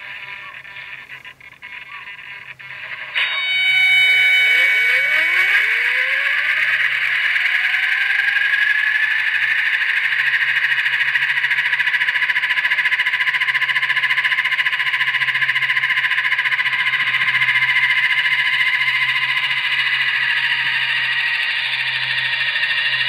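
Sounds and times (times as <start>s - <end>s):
model helicopter motor whining: 0.0s - 23.0s.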